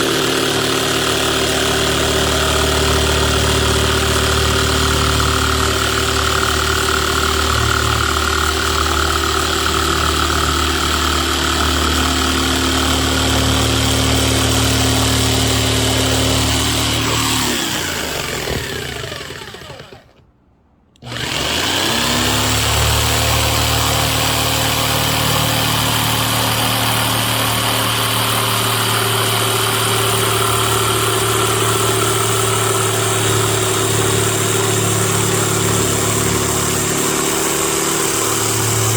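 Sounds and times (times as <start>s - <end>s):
electric jigsaw motor running: 0.0s - 20.2s, 21.0s - 38.9s.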